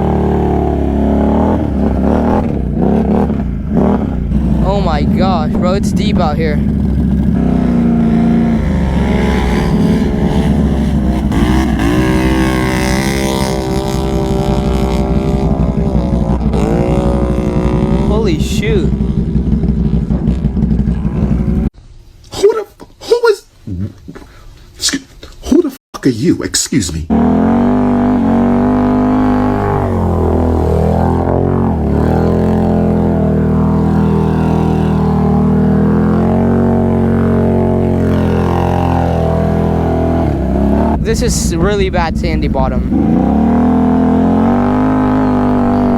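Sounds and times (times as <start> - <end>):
atv engine running: 0.0 - 21.8, 27.1 - 45.9.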